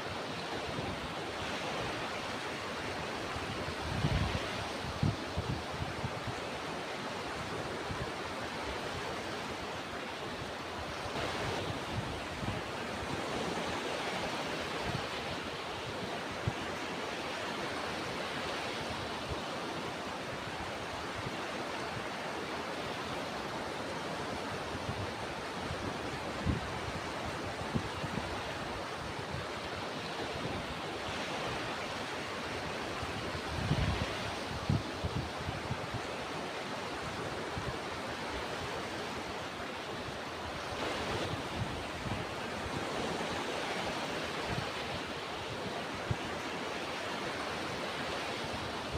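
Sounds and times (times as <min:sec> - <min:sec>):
ocean surf washing: 0:00.0 - 0:48.9.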